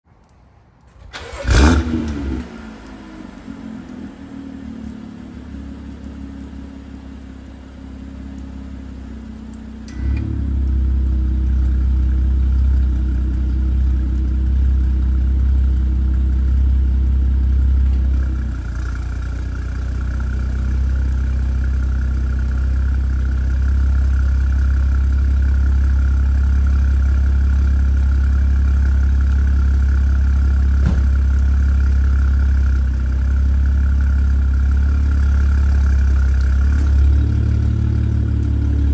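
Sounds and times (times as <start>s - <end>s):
car engine starting and idling: 0.2s - 38.9s.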